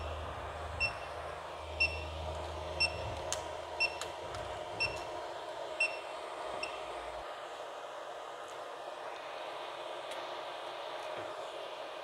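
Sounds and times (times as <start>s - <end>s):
low steady printer hum: 0.0s - 12.0s.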